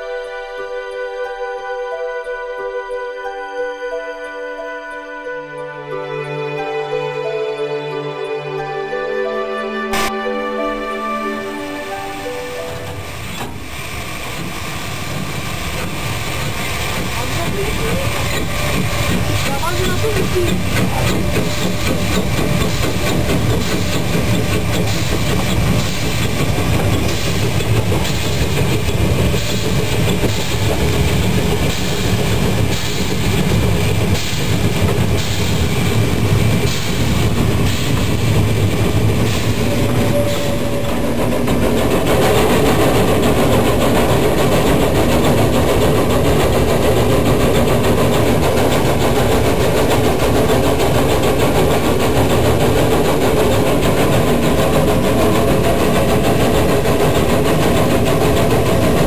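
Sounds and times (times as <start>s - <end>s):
steam locomotive exhaust beating: 9.9s - 59.0s
train clattering on rails: 9.9s - 59.0s.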